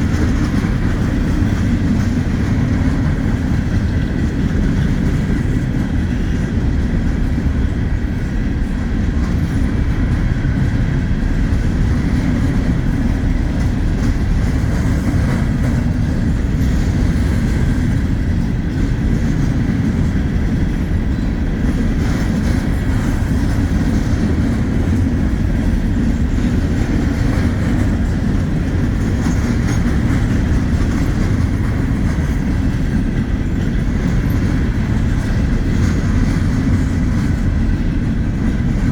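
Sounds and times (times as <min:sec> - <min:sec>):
freight train rolling past: 0:00.0 - 0:38.9.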